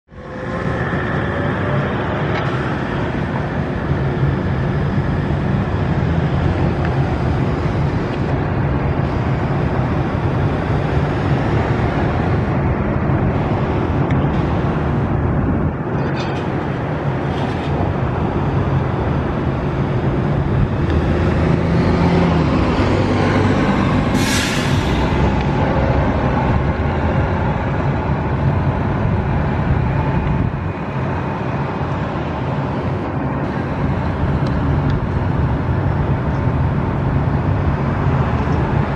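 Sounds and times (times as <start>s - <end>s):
bus engine running: 0.1s - 38.9s
passing city traffic: 0.1s - 38.9s.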